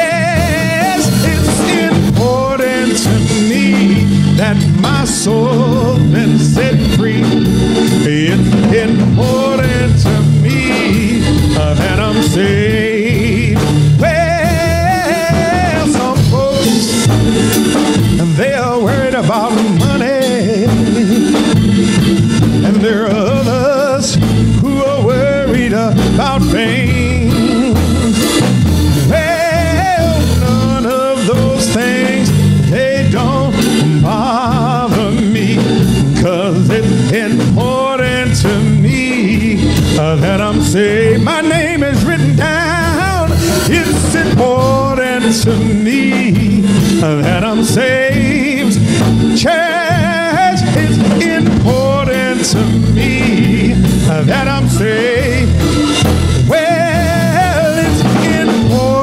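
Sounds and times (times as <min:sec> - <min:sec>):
live band playing: 0:00.0 - 0:59.0
man singing with vibrato: 0:00.0 - 0:59.0.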